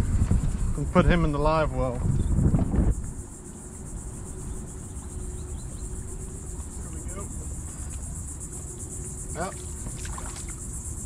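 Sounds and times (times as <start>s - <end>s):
faint steady hum: 0.0s - 11.0s
insects trilling: 0.0s - 11.0s.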